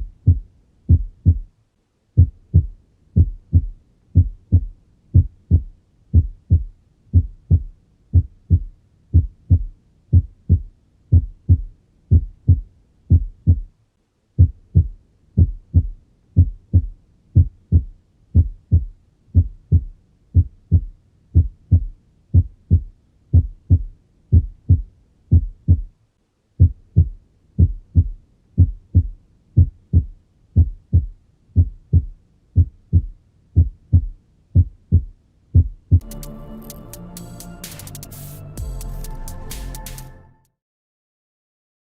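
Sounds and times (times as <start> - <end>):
heartbeat lub-dub: 0.0 - 1.5, 2.2 - 13.8, 14.4 - 26.0, 26.6 - 40.2.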